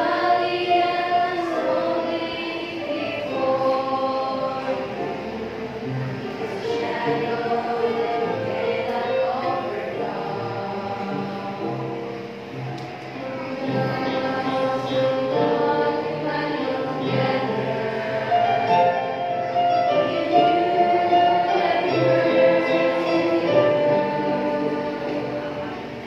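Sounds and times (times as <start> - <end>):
youth choir singing: 0.0 - 26.0.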